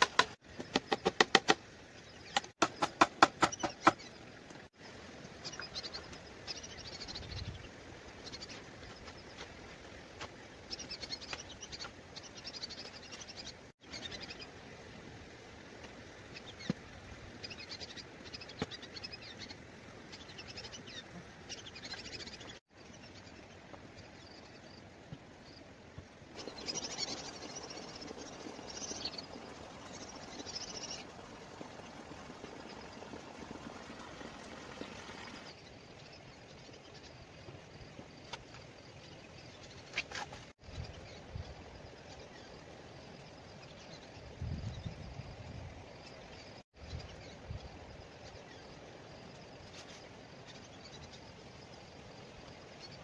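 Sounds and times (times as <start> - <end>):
small birds chirping: 0.0 - 14.8, 15.9 - 25.7, 26.3 - 53.0
outdoor background noise: 0.0 - 53.0.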